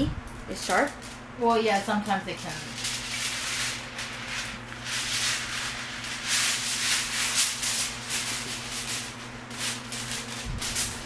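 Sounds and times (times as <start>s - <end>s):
aluminum foil crinkling: 0.3s - 11.0s.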